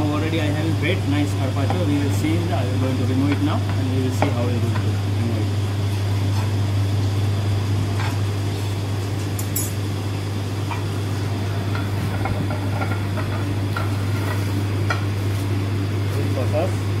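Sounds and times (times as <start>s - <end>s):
low hum of kitchen equipment: 0.0s - 17.0s.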